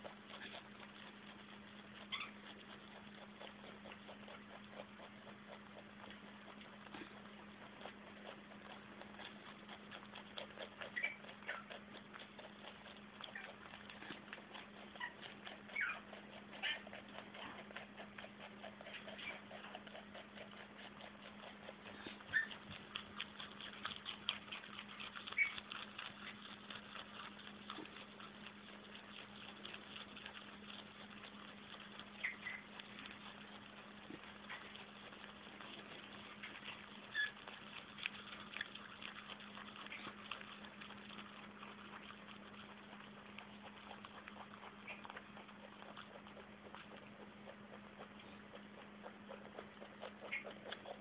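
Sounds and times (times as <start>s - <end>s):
rabbit chewing crunchy greens: 0.0s - 51.0s
steady low hum: 0.0s - 51.0s.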